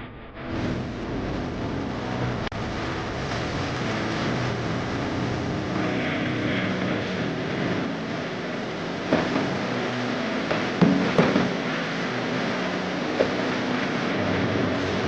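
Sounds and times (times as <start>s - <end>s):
low hum: 0.0s - 15.0s
mechanical drone: 0.0s - 15.0s.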